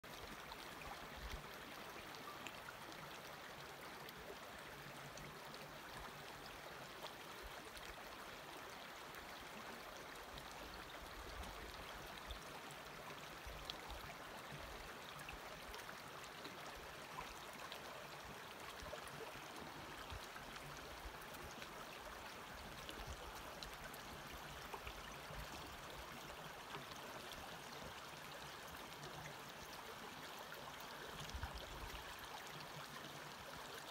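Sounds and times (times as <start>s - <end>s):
creek water flowing: 0.0s - 33.9s.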